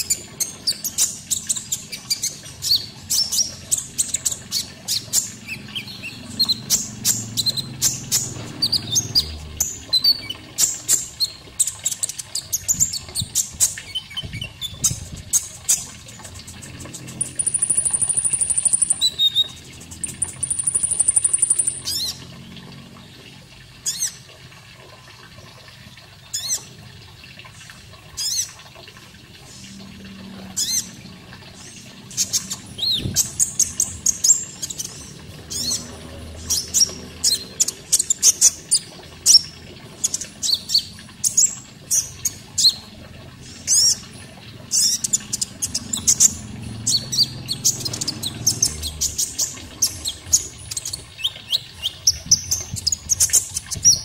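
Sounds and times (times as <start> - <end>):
faint running water: 0.0 - 54.0.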